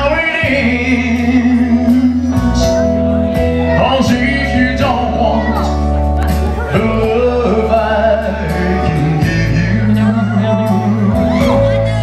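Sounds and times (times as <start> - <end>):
man singing into a microphone: 0.0 - 12.0
slow country ballad music: 0.0 - 12.0.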